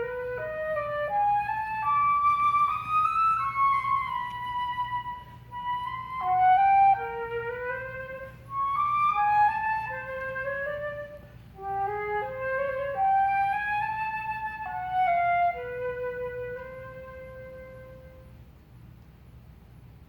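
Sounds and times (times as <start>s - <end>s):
solo flute melody: 0.0s - 18.4s.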